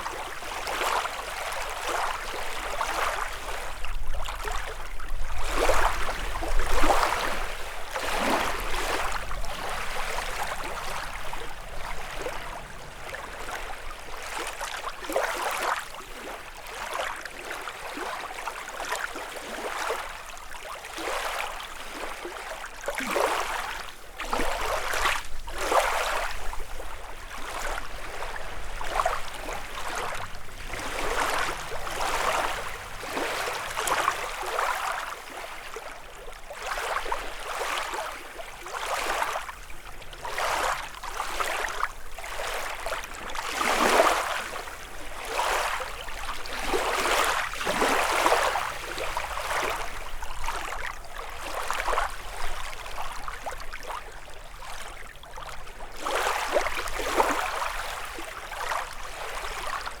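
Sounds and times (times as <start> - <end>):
small waves lapping on shore: 0.0 - 60.0.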